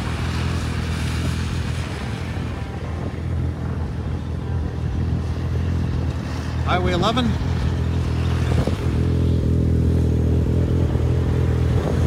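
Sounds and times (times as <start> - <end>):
vehicle engine and road drone: 0.0 - 12.0.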